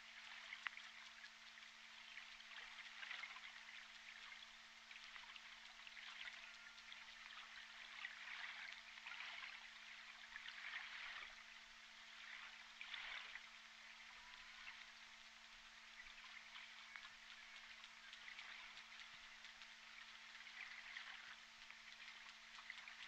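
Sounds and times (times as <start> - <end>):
crackling hiss: 0.0 - 23.0
low steady hum: 0.0 - 23.0.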